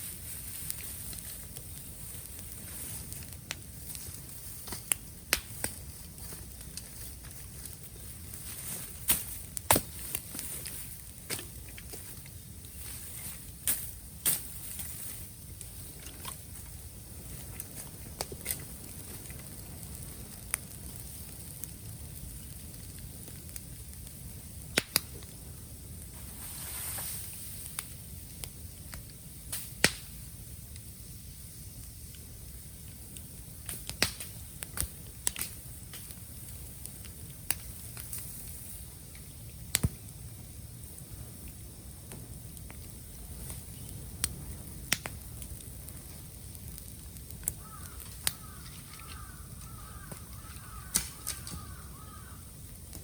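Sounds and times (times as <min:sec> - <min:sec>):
bamboo bonfire crackling: 0:00.0 - 0:53.0
sharp pops and snaps: 0:00.5 - 0:07.9, 0:08.8 - 0:16.8, 0:17.5 - 0:25.4, 0:27.1 - 0:30.9, 0:31.6 - 0:40.3, 0:40.9 - 0:51.8.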